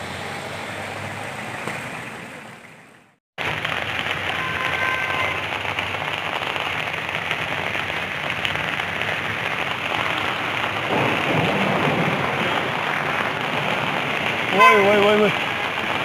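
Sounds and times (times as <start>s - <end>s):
heavy rain on wet street: 0.0s - 16.0s.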